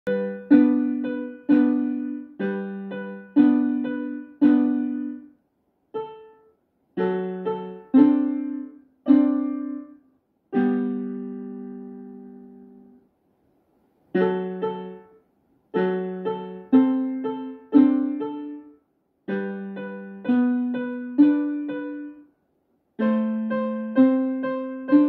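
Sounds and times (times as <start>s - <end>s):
keyboard piano notes: 0.1s - 5.3s, 5.9s - 13.0s, 14.2s - 22.3s, 23.0s - 25.0s.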